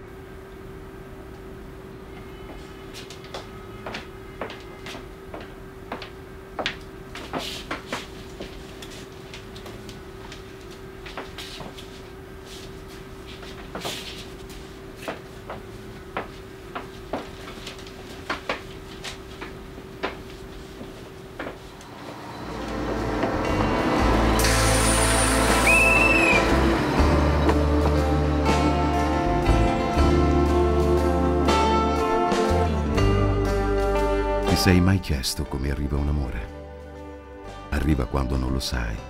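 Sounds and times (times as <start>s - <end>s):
steady hum: 0.0s - 37.8s.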